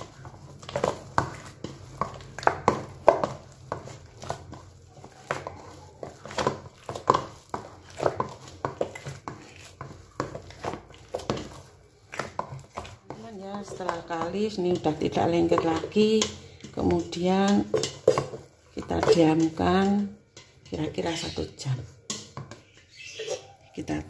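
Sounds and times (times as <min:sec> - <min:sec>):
dough kneaded by hand: 0:00.0 - 0:24.0.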